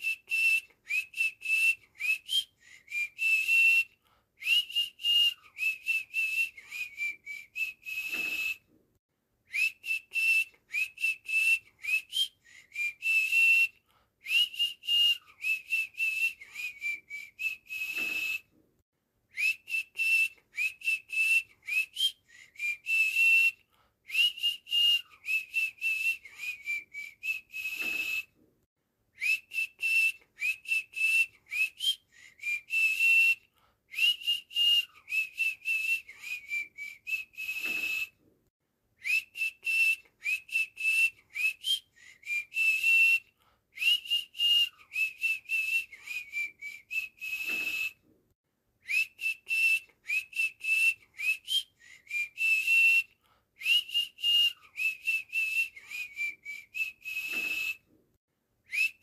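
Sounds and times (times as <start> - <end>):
whistled tune: 0.0 - 8.6, 9.5 - 18.5, 19.3 - 28.3, 29.2 - 38.2, 39.0 - 48.0, 48.8 - 57.9, 58.7 - 59.0.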